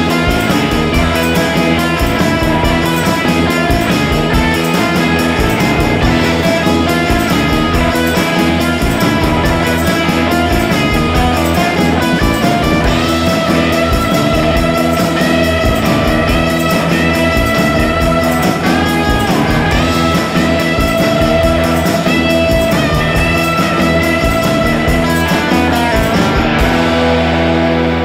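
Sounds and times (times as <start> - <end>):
steady drum beat: 0.0 - 27.6
electric guitar melody: 0.0 - 28.0.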